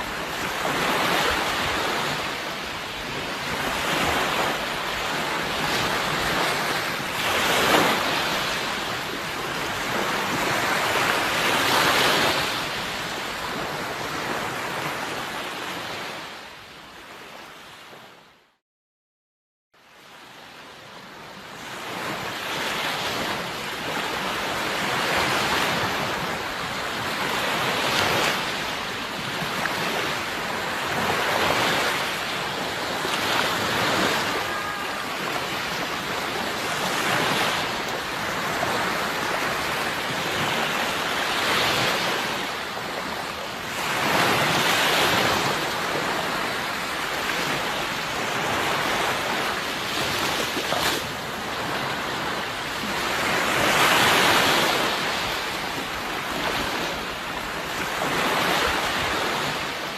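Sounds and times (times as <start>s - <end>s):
sea waves washing in: 0.0s - 18.2s, 19.9s - 59.9s.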